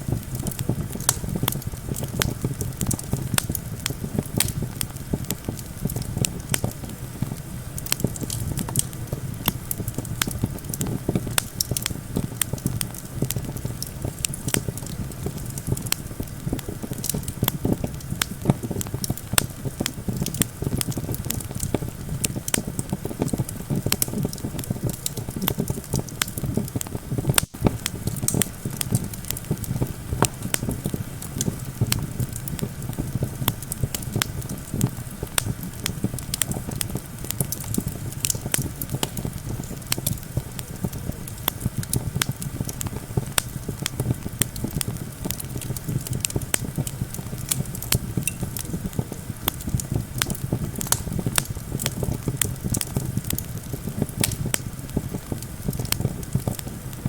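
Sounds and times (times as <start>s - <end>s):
campfire crackling and popping: 0.0s - 57.0s
low wind rumble: 0.0s - 57.0s.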